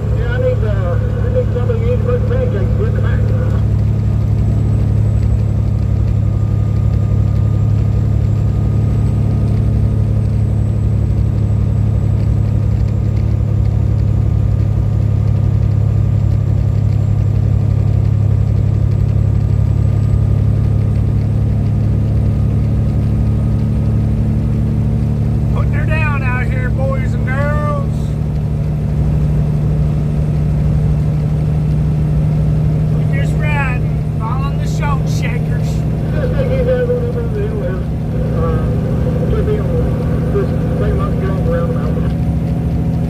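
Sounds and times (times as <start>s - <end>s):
road noise: 0.0s - 43.0s
truck engine droning: 0.0s - 43.0s.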